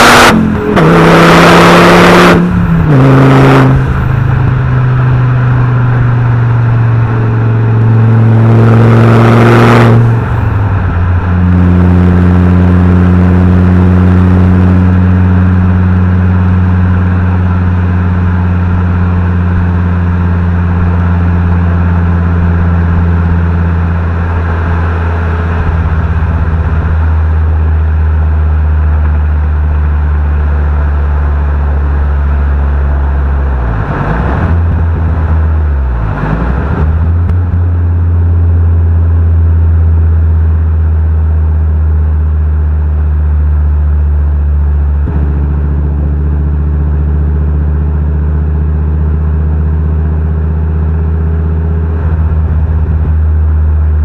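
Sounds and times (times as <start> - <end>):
turbocharged car engine revving: 0.0 - 54.0.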